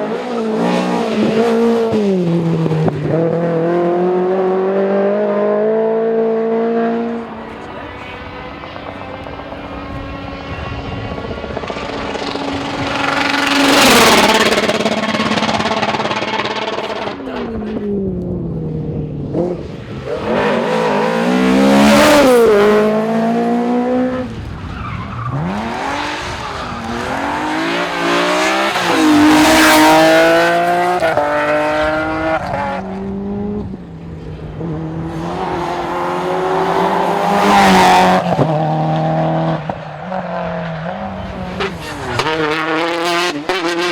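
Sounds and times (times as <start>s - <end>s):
rally cars accelerating past: 0.0s - 43.9s.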